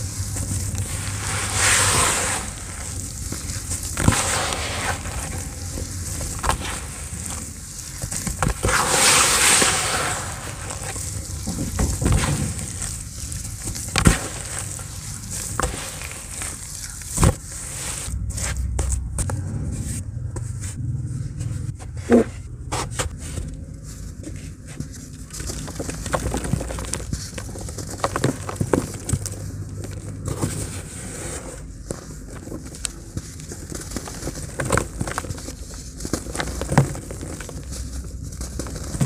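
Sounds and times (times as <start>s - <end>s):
hands crumbling damp cement: 0.0s - 19.4s, 23.2s - 39.0s.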